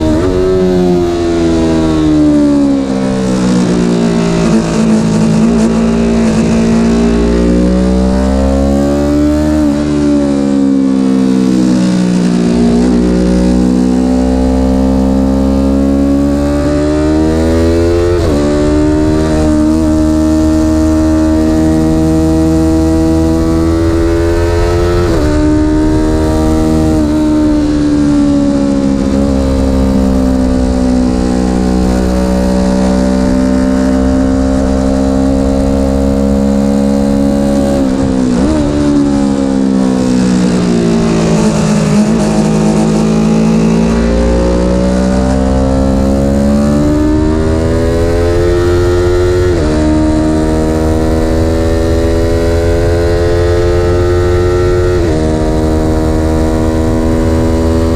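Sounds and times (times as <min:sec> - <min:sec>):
vehicle engine revving: 0:00.0 - 0:57.9.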